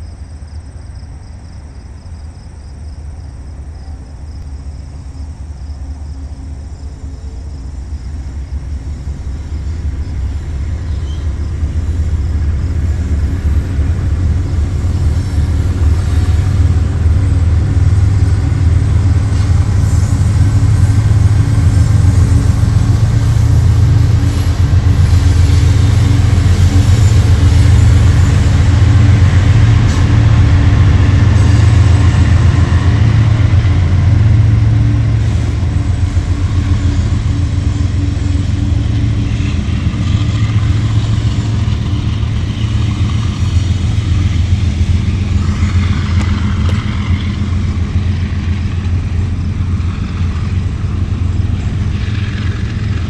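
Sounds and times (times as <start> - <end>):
locomotive engine rumble: 0.0 - 53.0
steady low engine tone: 0.0 - 53.0.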